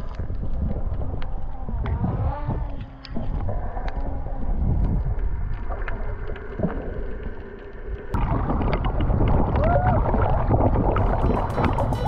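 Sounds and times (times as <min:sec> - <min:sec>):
water sloshing and gurgling: 0:00.0 - 0:12.0.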